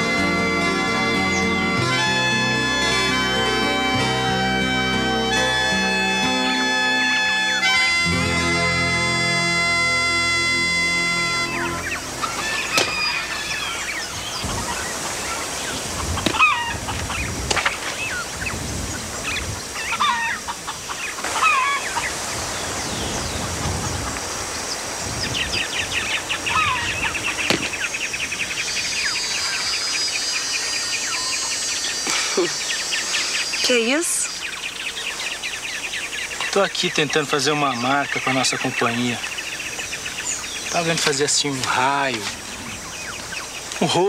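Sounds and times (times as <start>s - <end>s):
birds chirping: 0.0s - 44.0s
hens clucking: 0.0s - 44.0s.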